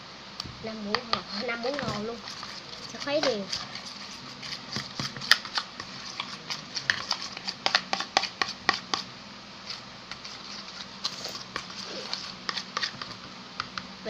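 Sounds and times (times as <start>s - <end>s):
stirrer clicking against container: 0.9s - 9.0s, 10.1s - 13.8s.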